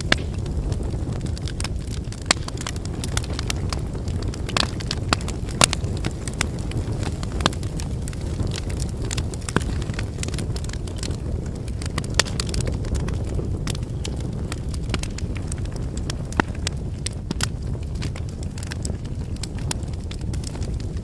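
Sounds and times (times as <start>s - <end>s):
firewood crackling and popping: 0.0s - 21.0s
low rumble of flames: 0.0s - 21.0s.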